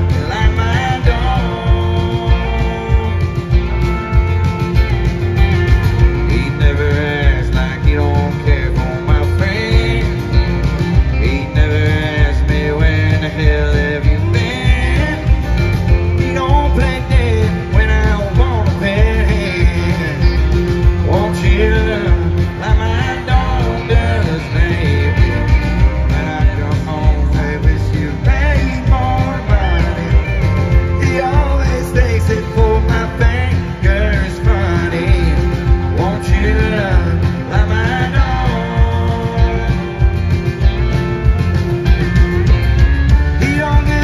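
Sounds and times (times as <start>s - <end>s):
man singing: 0.0s - 4.4s, 5.7s - 41.1s, 43.2s - 44.0s
live country band playing: 0.0s - 44.0s.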